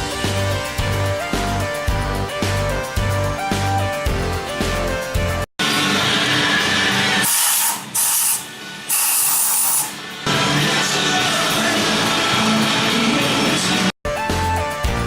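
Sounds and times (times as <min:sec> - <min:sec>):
background music: 0:00.0 - 0:07.3, 0:09.6 - 0:15.0.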